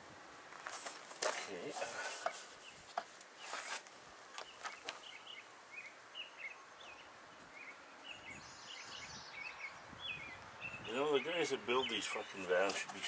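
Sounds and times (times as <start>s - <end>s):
faint outdoor noise: 0.0s - 13.0s
small birds chirping: 1.4s - 13.0s.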